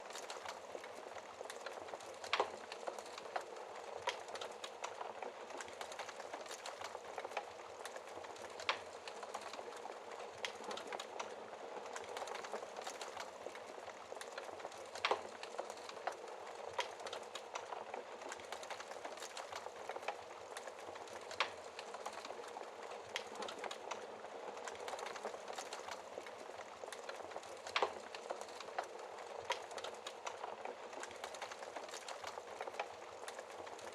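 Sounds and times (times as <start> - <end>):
wood fire hissing and crackling: 0.0 - 33.9.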